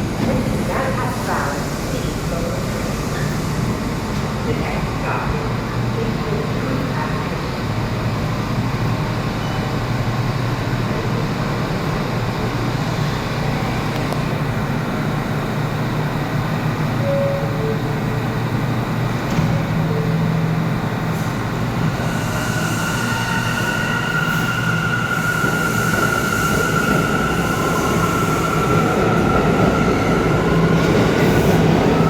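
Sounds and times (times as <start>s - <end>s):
subway train rumble: 0.0s - 32.0s.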